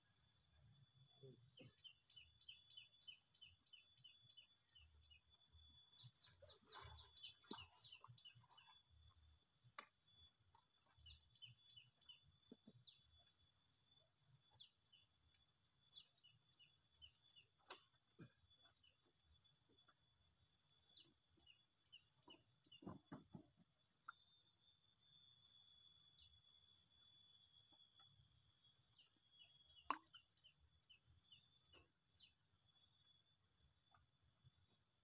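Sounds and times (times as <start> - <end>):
faint bird song: 0.0 - 35.0.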